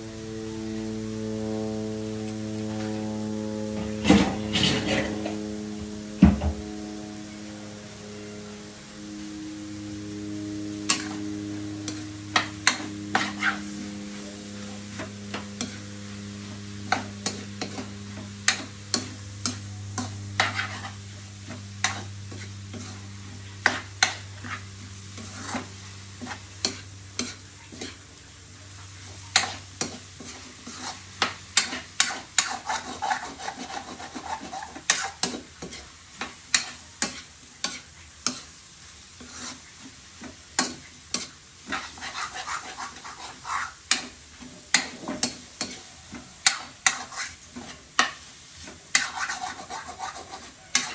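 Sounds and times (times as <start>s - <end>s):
food sizzling: 0.0s - 50.9s
spatula scraping a wok: 0.8s - 50.9s.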